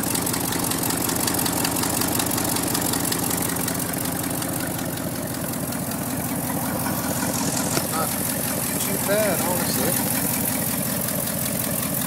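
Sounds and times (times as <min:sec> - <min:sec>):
car engine idling: 0:00.0 - 0:12.0
rapid engine ticking: 0:00.0 - 0:12.0.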